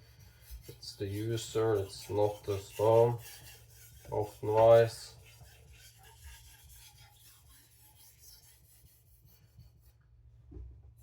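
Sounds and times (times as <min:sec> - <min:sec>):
knife scraping on whetstone: 0:00.1 - 0:09.2.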